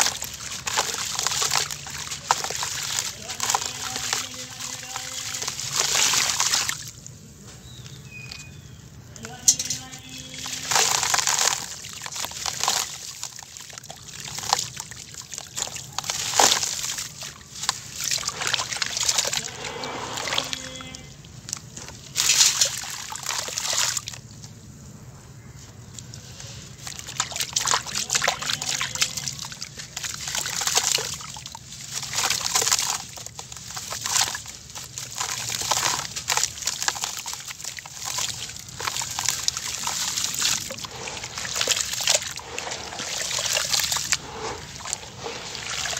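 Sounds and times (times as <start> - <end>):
grit pouring into water: 0.0 - 7.0, 10.1 - 24.2, 26.7 - 45.9.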